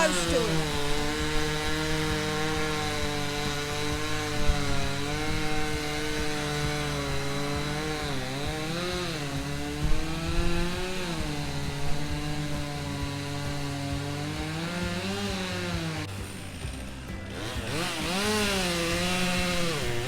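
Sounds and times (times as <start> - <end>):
chainsaw cutting tree: 0.0 - 20.0.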